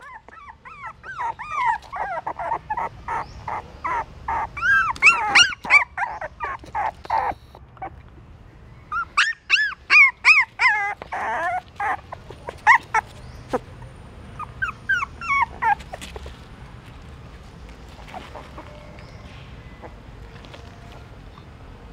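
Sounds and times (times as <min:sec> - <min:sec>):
puppies whimpering and yelping: 0:00.0 - 0:08.0, 0:08.7 - 0:16.5, 0:17.9 - 0:21.4.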